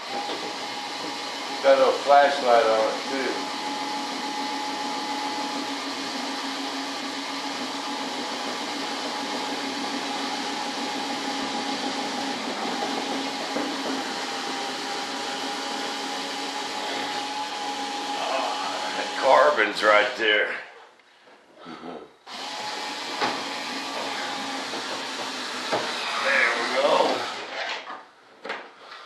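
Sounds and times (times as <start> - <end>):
cordless drill whining: 0.0 - 19.8, 22.3 - 27.8.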